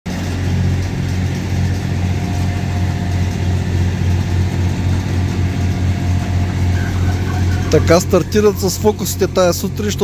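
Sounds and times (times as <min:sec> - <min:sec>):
diesel engine idling: 0:00.1 - 0:10.0.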